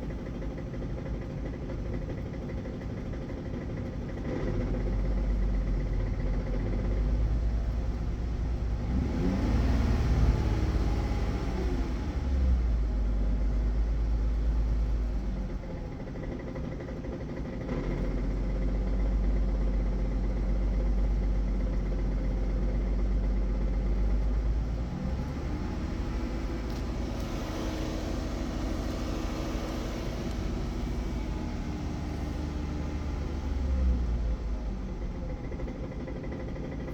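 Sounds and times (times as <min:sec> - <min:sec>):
van engine idling with low hum: 0:00.0 - 0:36.9.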